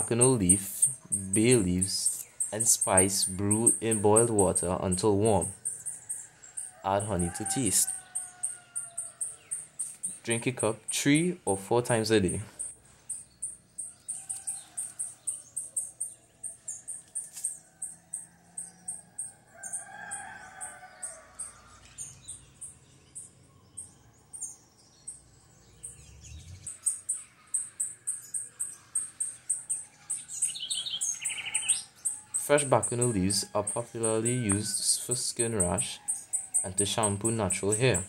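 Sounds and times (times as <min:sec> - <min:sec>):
high-pitched chirping: 0:00.0 - 0:17.6, 0:21.9 - 0:38.0.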